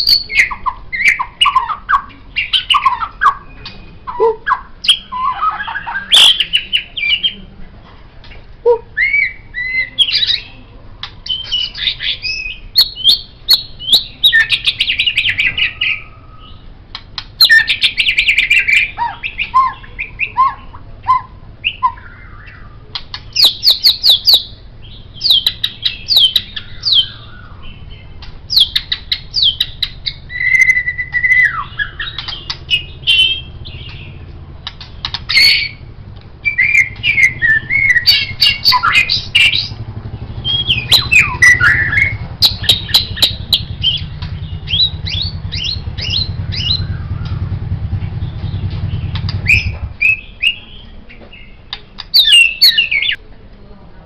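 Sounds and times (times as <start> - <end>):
songbird singing: 0.0 - 53.8.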